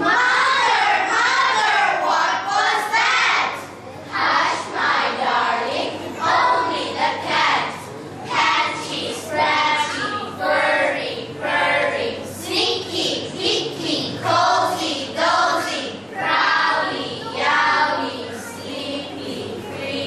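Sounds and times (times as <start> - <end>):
girls chanting in unison: 0.0 - 20.0.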